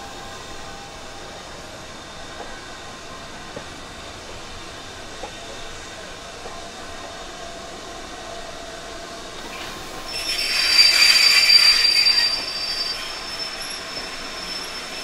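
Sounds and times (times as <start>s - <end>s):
train running noise: 0.0s - 15.0s
train wheels squealing on rails: 0.0s - 15.0s.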